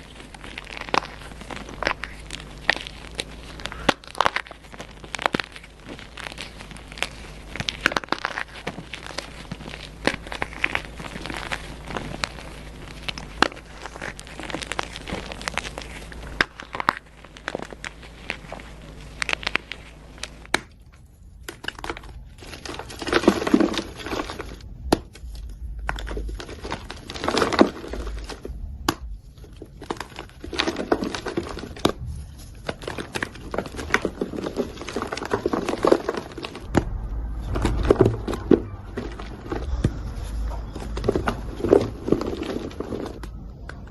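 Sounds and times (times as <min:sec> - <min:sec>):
chalk crunching and crackling: 0:00.0 - 0:20.8, 0:21.4 - 0:43.9.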